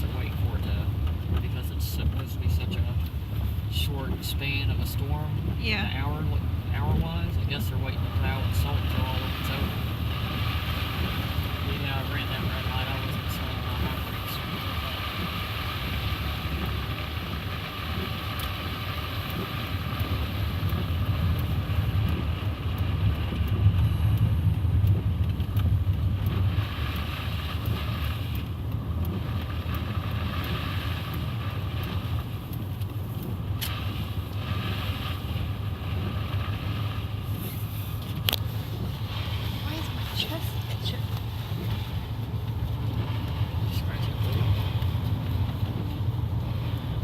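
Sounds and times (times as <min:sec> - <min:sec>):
truck cab road and engine rumble: 0:00.0 - 0:47.0.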